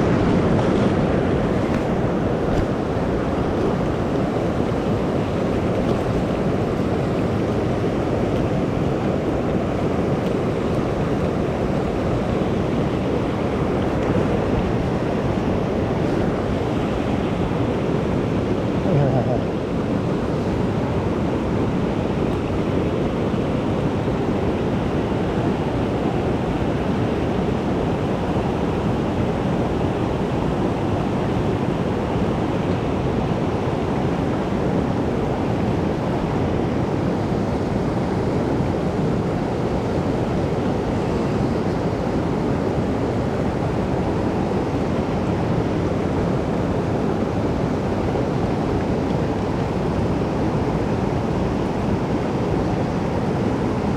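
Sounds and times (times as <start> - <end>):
rushing stream water: 0.0 - 53.9.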